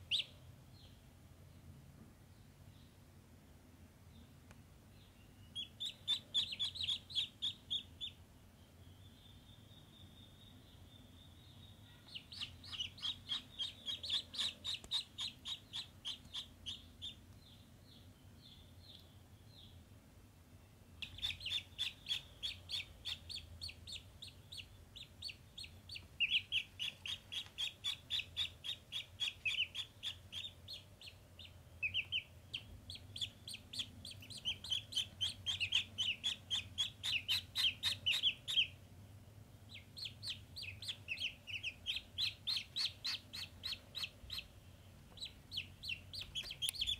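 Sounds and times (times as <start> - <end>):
ducklings peeping: 0.0 - 1.0, 5.0 - 19.8, 21.0 - 38.9, 39.6 - 46.9.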